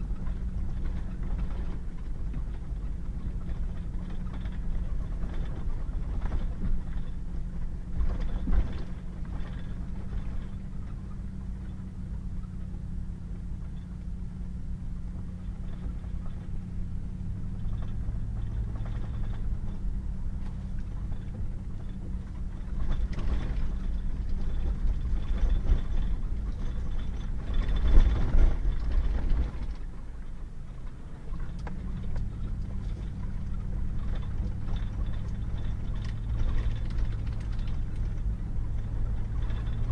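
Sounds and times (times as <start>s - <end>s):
truck engine hum: 0.0s - 39.9s.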